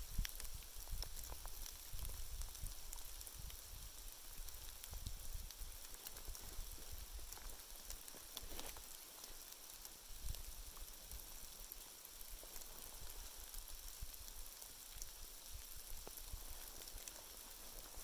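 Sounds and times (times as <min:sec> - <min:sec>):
small flame crackling: 0:00.0 - 0:18.0
small ticks: 0:00.0 - 0:18.0.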